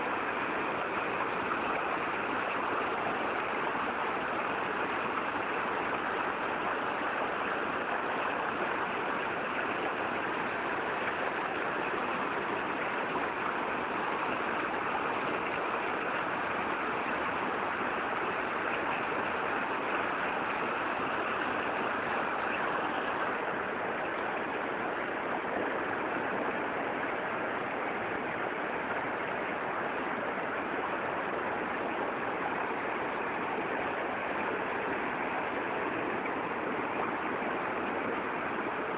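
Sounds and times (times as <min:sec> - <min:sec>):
rushing flowing water: 0:00.0 - 0:38.9.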